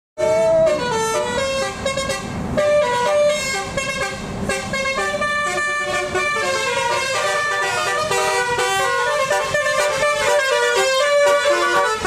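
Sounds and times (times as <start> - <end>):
multi-tone bus horn tune: 0.2 - 12.0.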